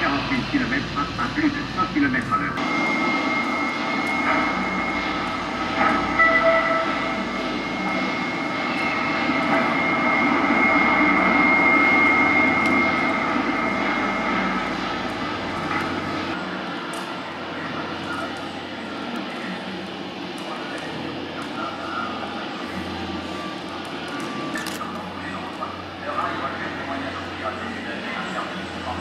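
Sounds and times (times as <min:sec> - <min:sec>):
high whine: 0:00.0 - 0:29.0
train running rumble: 0:00.0 - 0:29.0.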